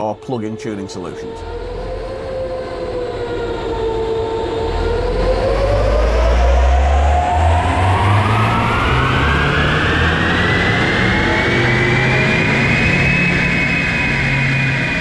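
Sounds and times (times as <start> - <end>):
engine whine rising in pitch: 0.0 - 15.0.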